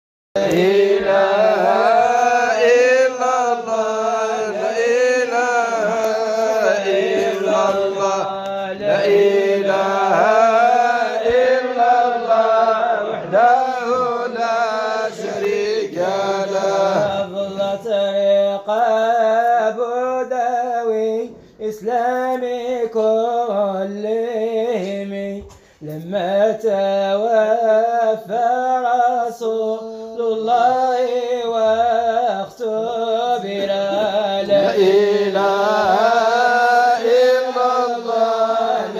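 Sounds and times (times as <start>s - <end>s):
person singing a chant: 0.4s - 38.9s.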